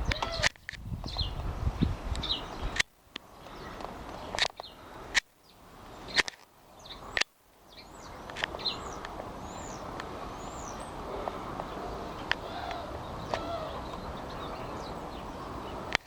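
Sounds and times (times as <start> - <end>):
small birds chirping: 0.0 - 16.0
outdoor hiss: 1.3 - 16.0.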